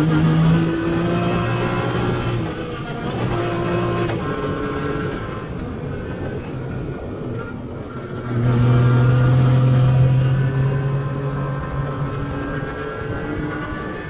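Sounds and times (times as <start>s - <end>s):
three-cylinder engine running: 0.0s - 14.0s.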